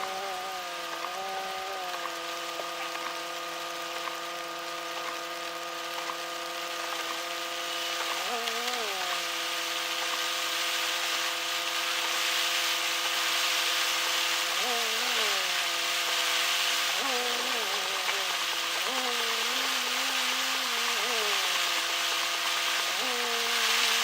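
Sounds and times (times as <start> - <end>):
rain hiss on wet road: 0.0 - 24.0.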